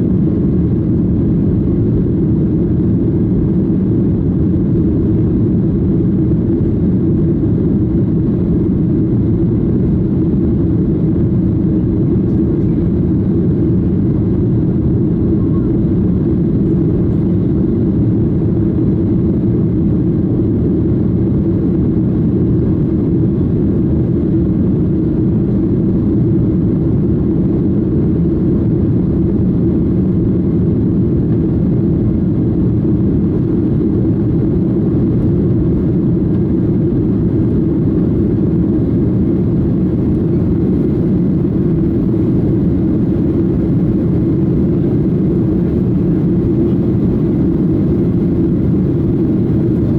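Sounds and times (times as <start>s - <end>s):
jet engines droning: 0.0s - 49.9s.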